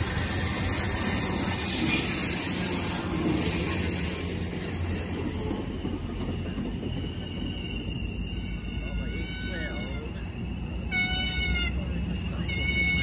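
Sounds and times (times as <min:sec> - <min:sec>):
diesel locomotive engine growling: 0:00.0 - 0:13.0
train wheels rumbling on rails: 0:00.0 - 0:13.0.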